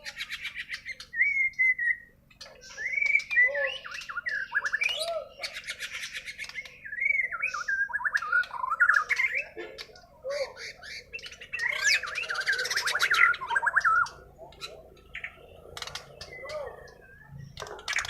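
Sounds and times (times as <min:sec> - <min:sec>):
songbird whistling song: 0:00.0 - 0:18.0.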